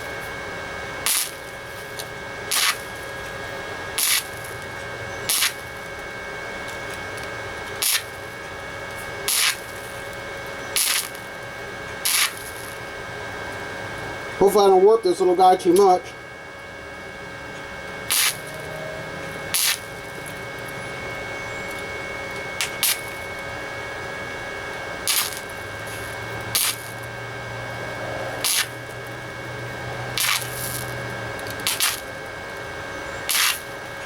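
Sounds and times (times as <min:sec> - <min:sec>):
welder arc bursts: 0:00.0 - 0:16.1, 0:17.6 - 0:34.0
steady high hum: 0:00.0 - 0:34.0.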